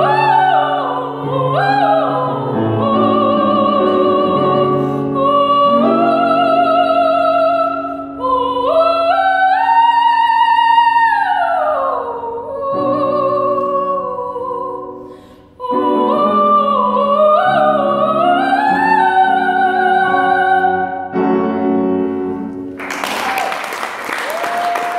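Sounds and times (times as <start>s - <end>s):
woman singing operatically: 0.0s - 21.2s
grand piano: 0.0s - 24.9s.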